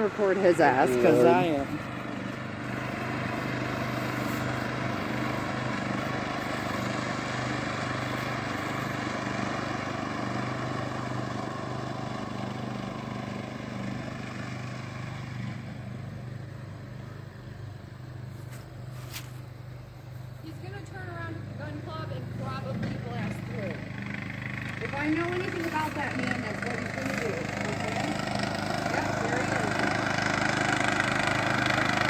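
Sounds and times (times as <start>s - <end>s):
lawnmower engine running: 0.0s - 32.0s.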